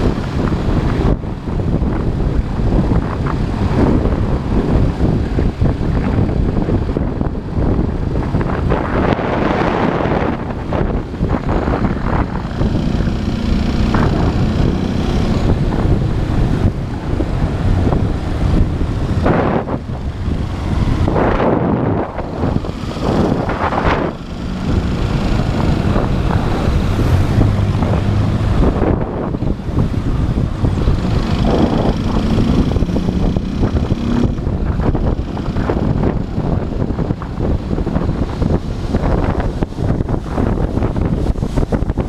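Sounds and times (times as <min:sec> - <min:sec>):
motorcycle engine running: 0:00.0 - 0:42.0
wind noise on microphone: 0:00.0 - 0:42.0.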